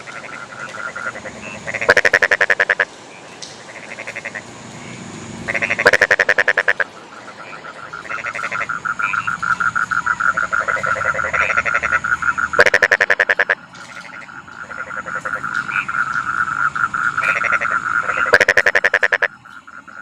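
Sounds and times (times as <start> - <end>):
frogs calling in pulsed trills: 0.0 - 20.0.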